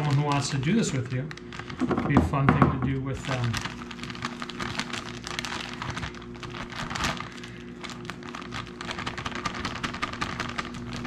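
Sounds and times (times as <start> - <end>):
microwave humming: 0.0 - 11.0
plastic bag crinkling: 0.0 - 11.0.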